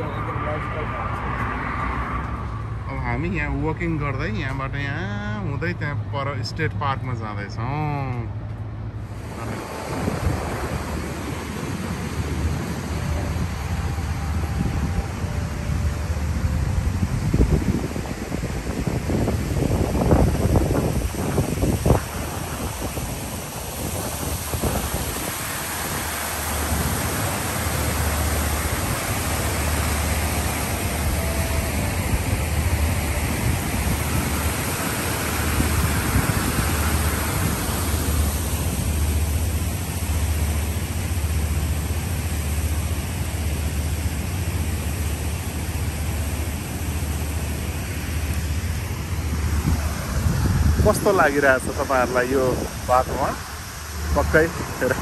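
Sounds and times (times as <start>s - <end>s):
wind buffeting microphone: 9.0s - 55.0s.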